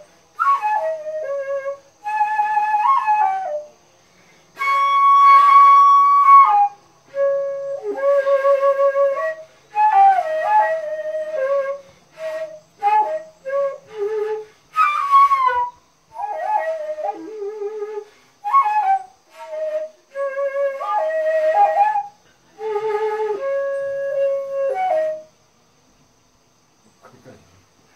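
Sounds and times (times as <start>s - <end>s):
bamboo flute melody: 0.0s - 3.8s, 4.5s - 25.4s.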